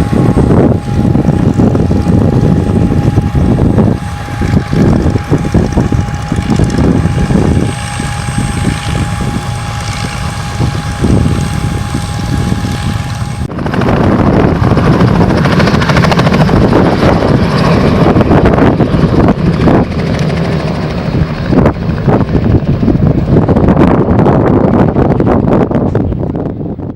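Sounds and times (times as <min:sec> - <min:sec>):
propeller aircraft engine: 0:00.0 - 0:26.9
wind on microphone: 0:00.0 - 0:26.9.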